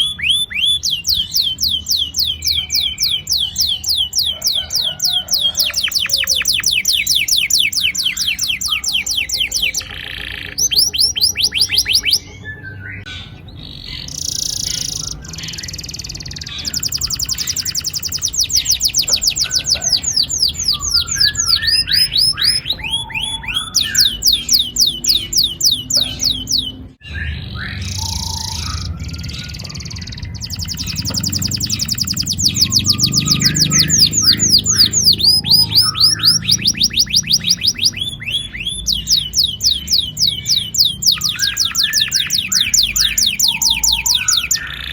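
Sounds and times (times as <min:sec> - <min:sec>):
canary chirps: 0:00.0 - 0:44.9
canary singing rolling trills: 0:00.0 - 0:44.9.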